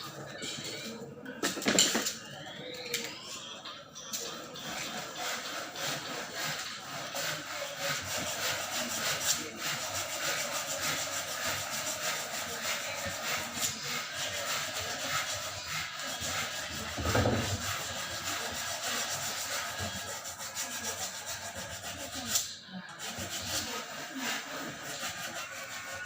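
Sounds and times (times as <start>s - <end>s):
hand scraping a hard surface: 4.6s - 26.0s.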